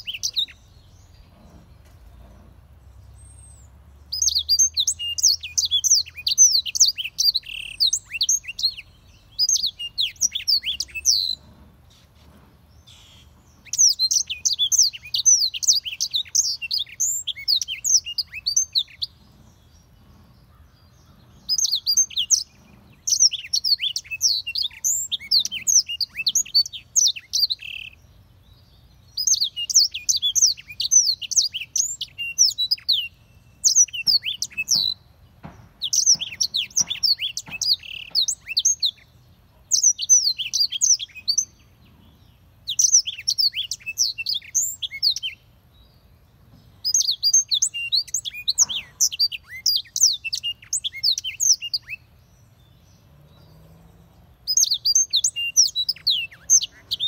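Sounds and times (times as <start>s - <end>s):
canary singing: 0.0s - 1.6s, 3.0s - 11.6s, 12.8s - 45.5s, 46.8s - 57.0s.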